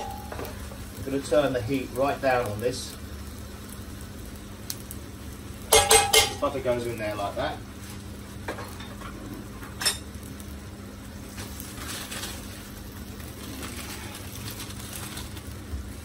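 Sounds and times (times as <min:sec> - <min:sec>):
low kitchen hum: 0:00.0 - 0:16.0.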